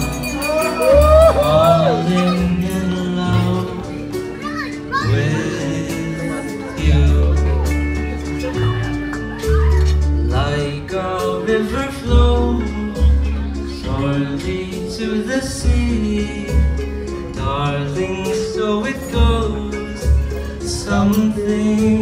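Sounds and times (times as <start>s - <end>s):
backing track with deep bass: 0.0s - 22.0s
young man singing into microphone: 0.6s - 8.7s, 9.9s - 22.0s.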